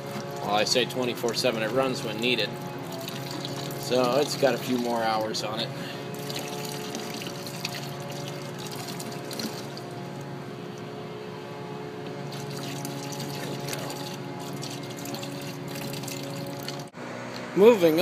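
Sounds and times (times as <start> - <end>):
coolant pouring into a bucket: 0.0 - 10.3, 12.3 - 16.9
steady hum: 0.0 - 18.0.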